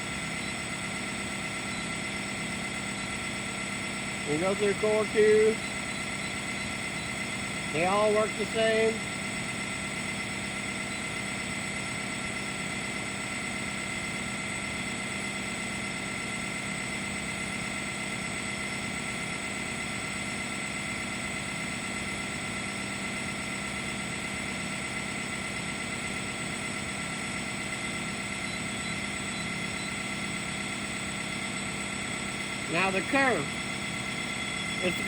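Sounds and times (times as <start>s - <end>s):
sawmill engine droning with whine: 0.0s - 35.0s.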